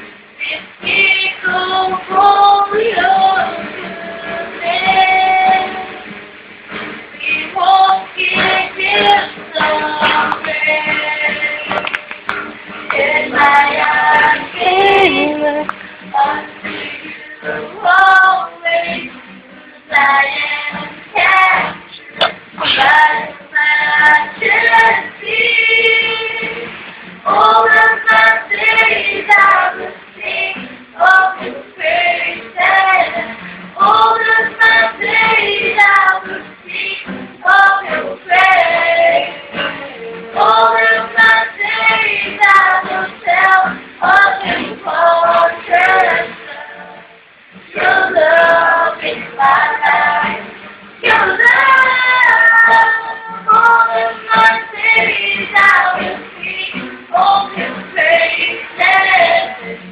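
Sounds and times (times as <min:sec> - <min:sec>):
strummed acoustic guitar: 0:00.0 - 0:59.9
woman singing: 0:00.4 - 0:06.0, 0:07.2 - 0:12.0, 0:12.9 - 0:26.7, 0:27.3 - 0:47.1, 0:47.8 - 0:59.8.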